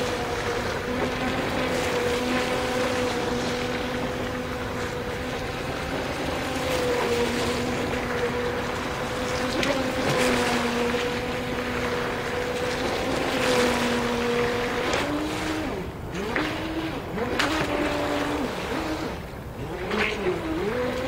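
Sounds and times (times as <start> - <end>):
boat motor whine: 0.0 - 21.0
sharp splashes: 0.0 - 21.0.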